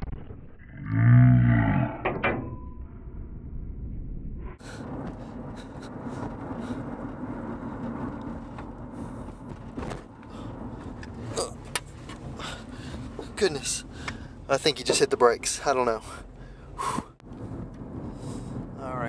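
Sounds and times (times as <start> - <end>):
car road noise rumble: 3.3 - 19.0.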